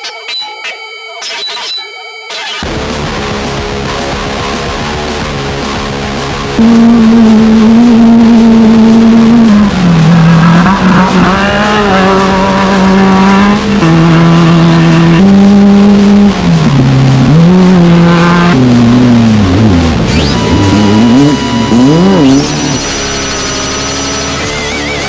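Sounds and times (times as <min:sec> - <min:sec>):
race car engine at high revs: 0:02.6 - 0:25.0.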